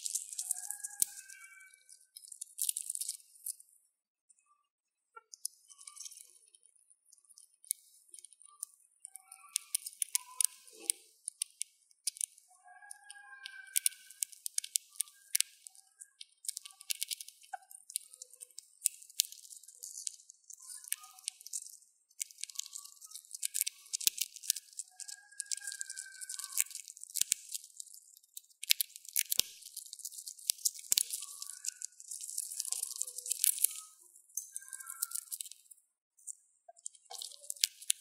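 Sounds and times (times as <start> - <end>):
hamster cracking seed shells: 0.0 - 3.7, 5.2 - 38.0.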